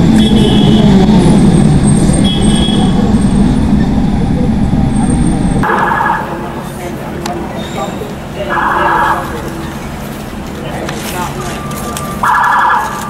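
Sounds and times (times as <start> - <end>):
bus engine rumbling: 0.0 - 13.0
street traffic: 0.0 - 13.0.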